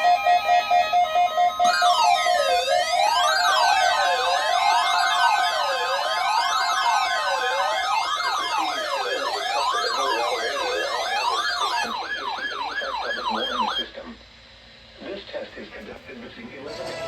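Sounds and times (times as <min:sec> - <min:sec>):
electronic siren wailing: 0:00.0 - 0:14.0
steady held tones: 0:00.0 - 0:17.0.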